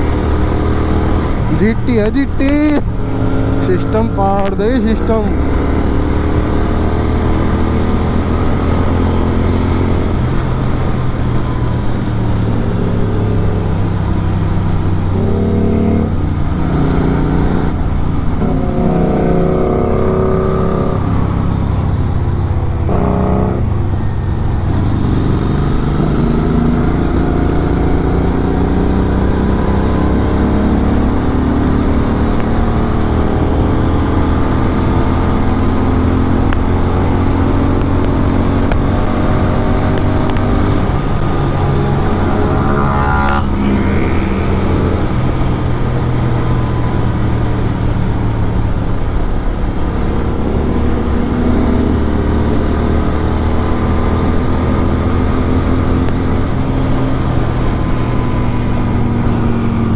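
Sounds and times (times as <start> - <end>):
motorbike engine accelerating: 0.0 - 59.9.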